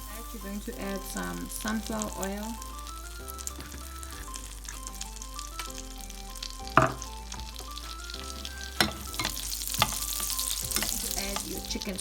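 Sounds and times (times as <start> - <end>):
oil sizzling in a frying pan: 0.0 - 12.0
soft background music: 0.0 - 12.0.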